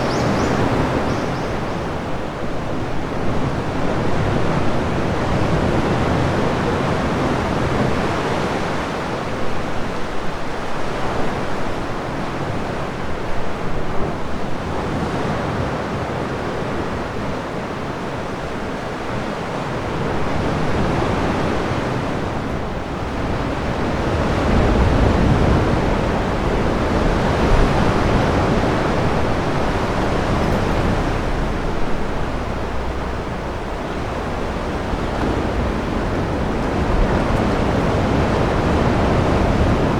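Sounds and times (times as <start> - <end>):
waves washing into sea cave: 0.0 - 39.9.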